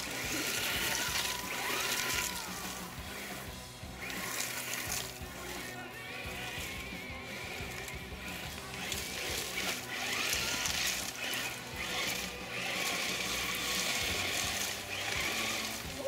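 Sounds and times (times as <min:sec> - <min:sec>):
faint motor whine: 0:00.0 - 0:16.0
gravel crunching under tyres: 0:00.0 - 0:16.0.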